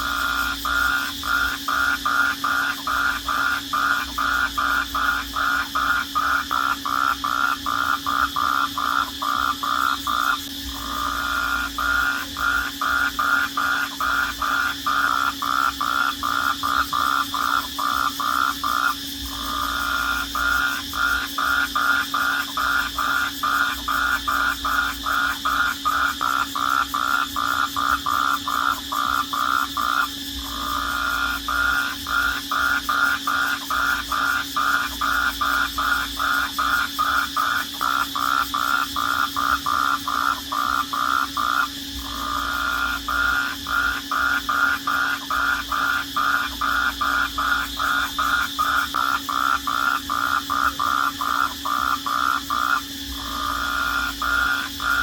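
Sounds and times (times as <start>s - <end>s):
crickets chirping: 0.0s - 55.0s
steady low hum: 0.0s - 55.0s.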